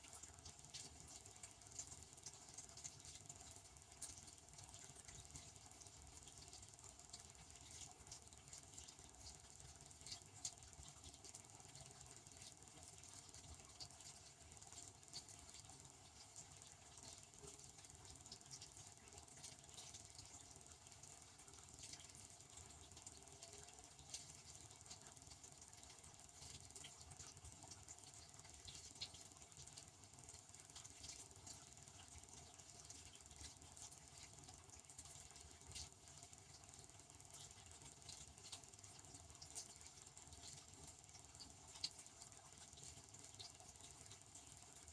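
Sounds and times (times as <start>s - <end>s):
small irregular ticks: 0.0s - 44.9s.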